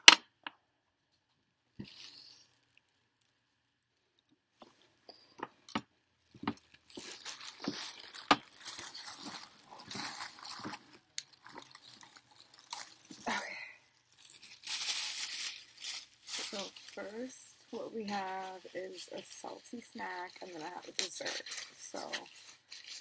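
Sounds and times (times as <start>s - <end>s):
handling noise rustling: 4.5s - 23.0s.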